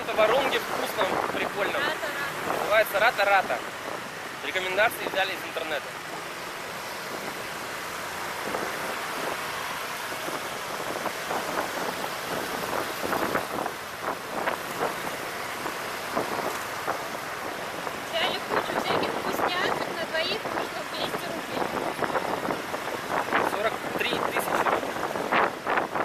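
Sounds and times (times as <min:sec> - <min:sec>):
wind over microphone: 0:00.0 - 0:05.2, 0:07.0 - 0:26.0
motorbike road noise: 0:00.0 - 0:26.0
traffic sounds: 0:00.0 - 0:26.0.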